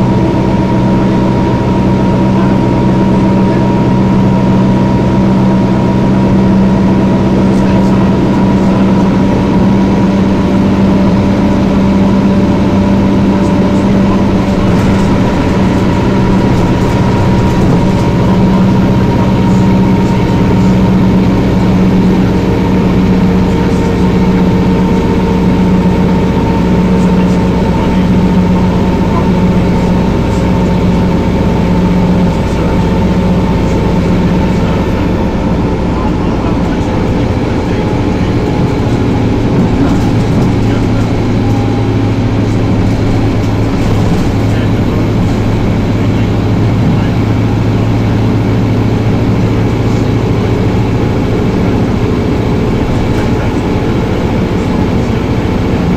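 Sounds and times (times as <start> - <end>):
diesel bus engine drone: 0.0 - 55.9
high whine: 0.0 - 55.9
middle whine: 0.0 - 55.9.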